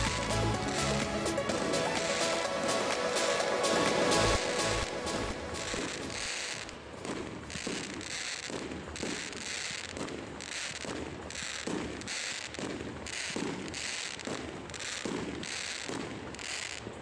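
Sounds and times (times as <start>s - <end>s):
firework shells booming: 0.0s - 17.0s
fireworks crackling: 0.0s - 17.0s.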